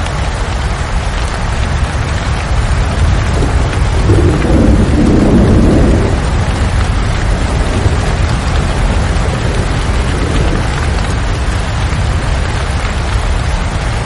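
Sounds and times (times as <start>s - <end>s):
heavy rain: 0.0s - 14.0s
thunder rumble: 0.0s - 14.0s.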